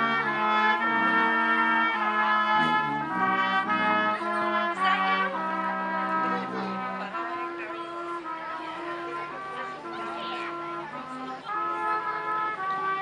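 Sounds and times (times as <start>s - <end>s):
small brass and clarinet band: 0.0s - 13.0s.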